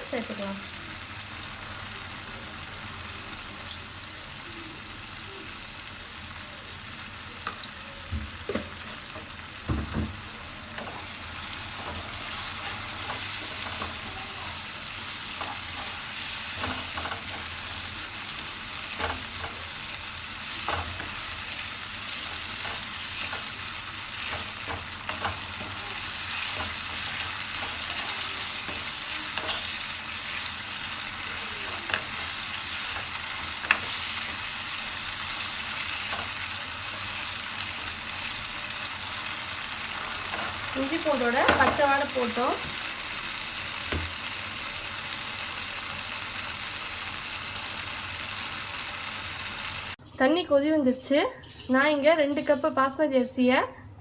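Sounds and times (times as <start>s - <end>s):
paste sizzling in hot oil: 0.0s - 50.0s.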